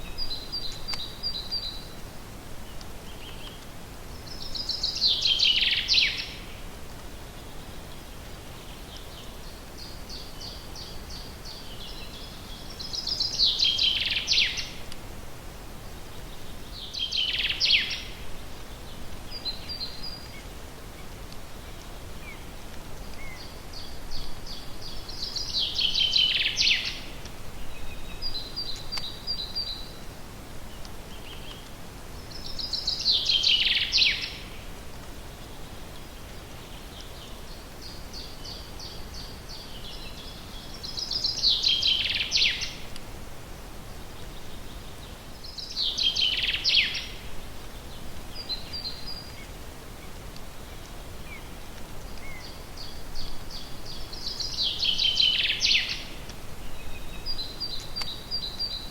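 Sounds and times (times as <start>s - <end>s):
songbird singing: 0.0s - 15.0s, 15.6s - 58.9s
background hiss: 0.0s - 58.9s.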